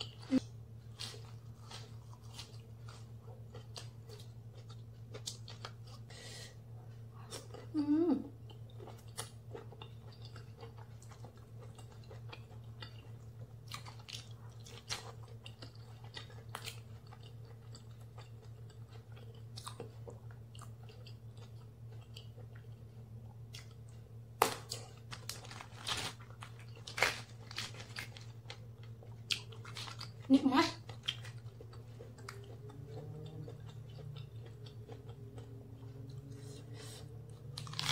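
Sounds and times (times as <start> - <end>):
chewing with wet crunches: 0.0 - 6.1, 8.4 - 37.9
steady low hum: 0.0 - 37.9.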